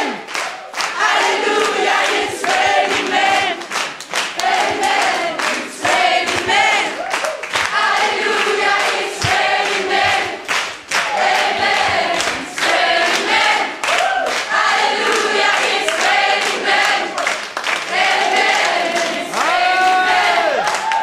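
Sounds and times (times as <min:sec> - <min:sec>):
choir singing: 0:00.0 - 0:00.3, 0:00.9 - 0:07.0, 0:07.6 - 0:20.6
crowd noise: 0:00.0 - 0:21.0.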